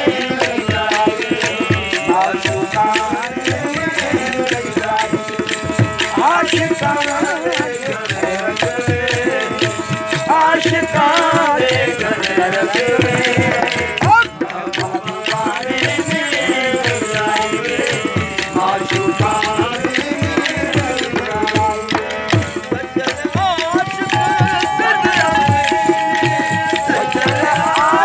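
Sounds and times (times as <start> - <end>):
hand drum beating: 0.0 - 28.0
harmonium: 0.0 - 28.0
men singing: 0.0 - 28.0.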